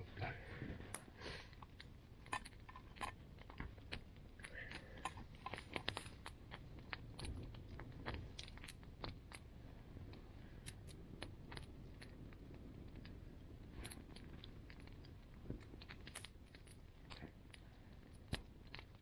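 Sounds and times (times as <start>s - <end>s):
campfire crackling: 0.0s - 19.0s
faint low rumble: 0.0s - 19.0s
sharp snaps and pops: 0.0s - 19.0s.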